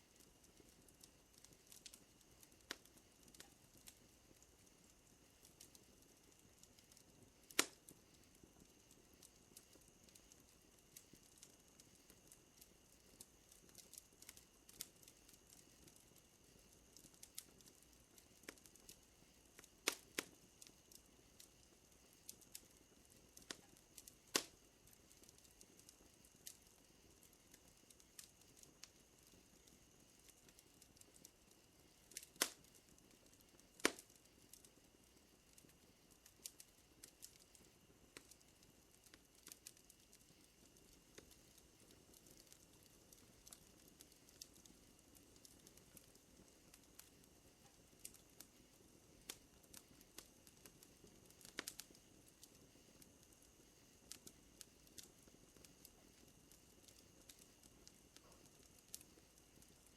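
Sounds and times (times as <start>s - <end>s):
wood fire crackling: 0.0s - 59.9s
fire popping sharply: 5.4s - 59.9s.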